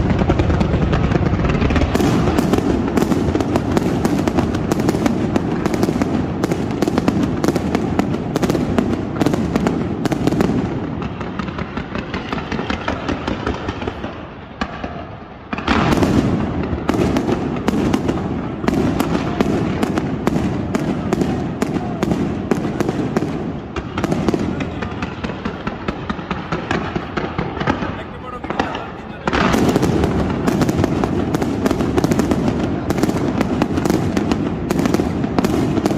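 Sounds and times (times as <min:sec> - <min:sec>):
fireworks bangs and pops: 0:00.0 - 0:35.9.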